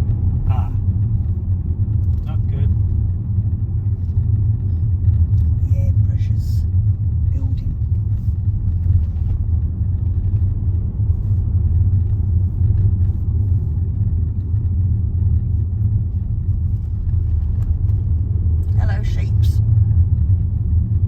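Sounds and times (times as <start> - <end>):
car engine rumble: 0.0 - 21.0
tyre road noise: 0.0 - 21.0.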